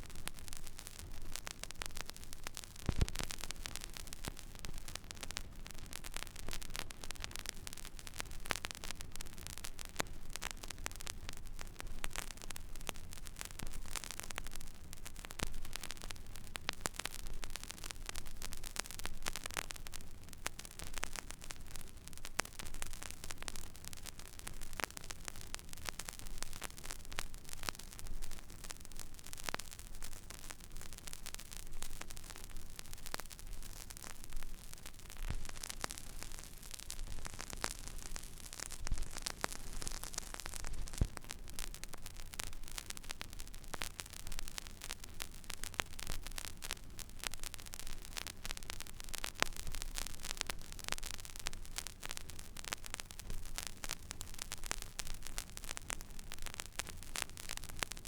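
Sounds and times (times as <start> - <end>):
steady hiss: 0.0 - 58.0
vinyl crackle clicks and pops: 0.0 - 58.0.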